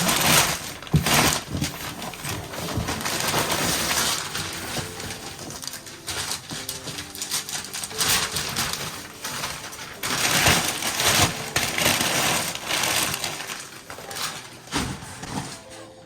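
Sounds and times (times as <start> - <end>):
wrapping paper tearing and crumpling: 0.0 - 16.0.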